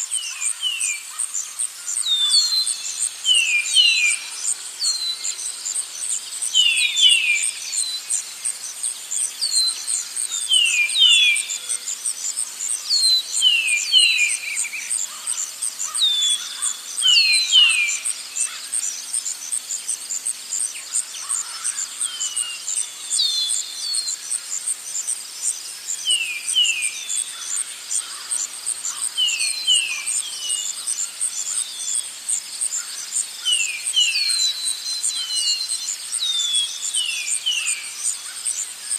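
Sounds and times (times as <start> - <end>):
insect trilling: 0.0 - 38.9.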